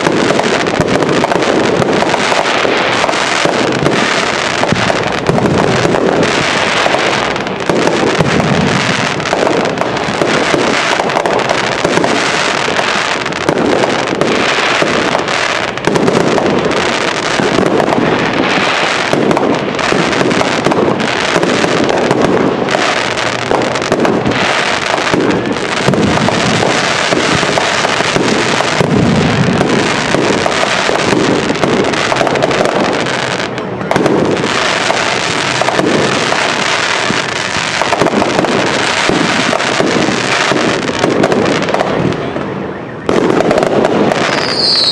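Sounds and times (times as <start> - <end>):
fireworks barrage: 0.0 - 44.9.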